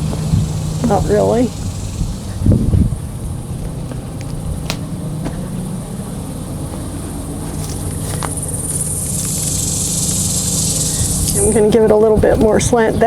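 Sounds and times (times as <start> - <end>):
insects buzzing: 0.0 - 13.0
truck engine idling: 0.0 - 13.0.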